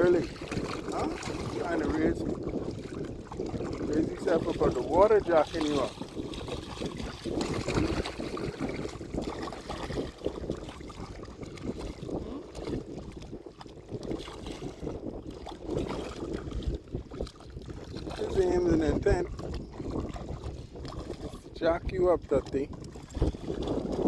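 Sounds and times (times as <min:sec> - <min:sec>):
seawater sloshing and splashing: 0:00.0 - 0:24.0
wind buffeting microphone: 0:00.0 - 0:24.0.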